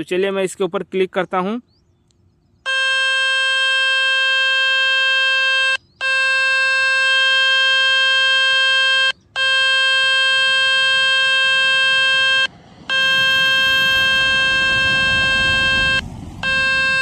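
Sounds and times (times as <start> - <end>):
buzzy tone from phone speaker: 2.7 - 17.0.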